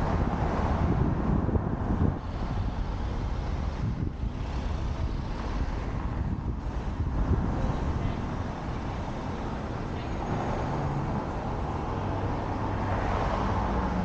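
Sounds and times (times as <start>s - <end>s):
cars passing close by: 0.0s - 14.0s
traffic rumble: 0.0s - 14.0s.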